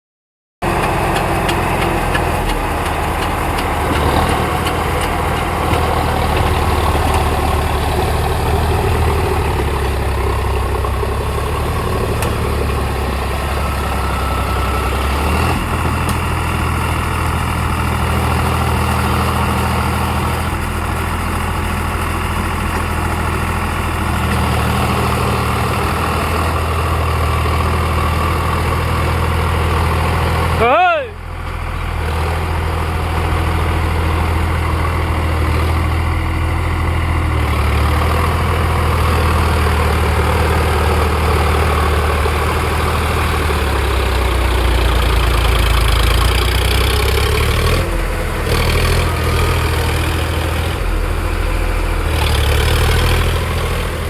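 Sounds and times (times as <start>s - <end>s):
tractor diesel engine running: 0.6s - 54.0s.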